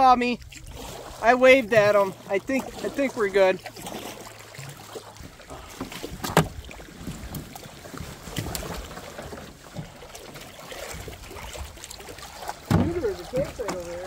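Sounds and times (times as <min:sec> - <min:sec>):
paddle strokes: 0:00.0 - 0:14.0
water splashing against hull: 0:00.0 - 0:14.0.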